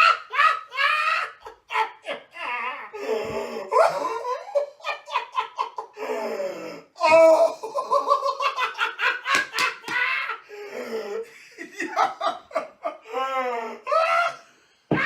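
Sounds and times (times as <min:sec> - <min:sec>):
man laughing hard: 0:00.0 - 0:06.4, 0:07.2 - 0:15.0.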